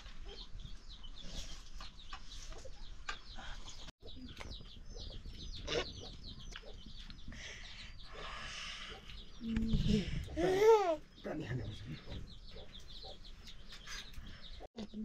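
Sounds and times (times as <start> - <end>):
chickens peeping and clucking: 0.0 - 15.0.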